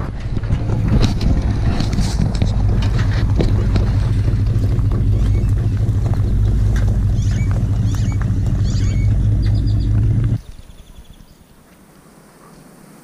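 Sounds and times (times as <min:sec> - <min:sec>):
vehicle engine idling: 0:00.0 - 0:11.4.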